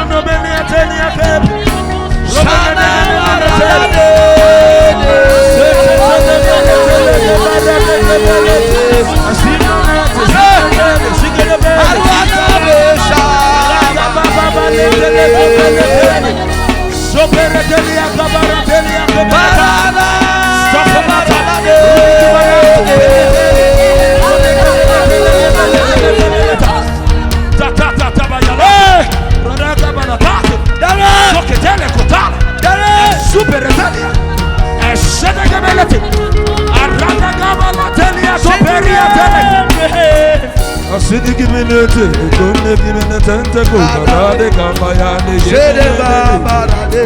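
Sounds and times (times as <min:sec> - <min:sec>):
worship backing music: 0:00.0 - 0:47.0.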